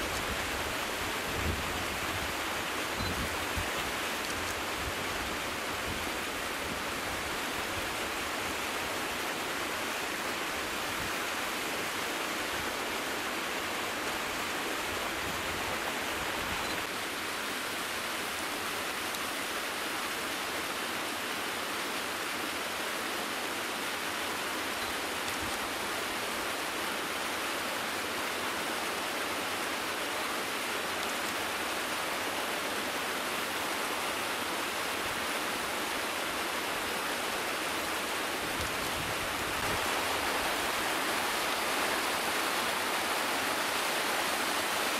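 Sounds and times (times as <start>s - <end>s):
mountain stream rushing: 0.0s - 44.9s.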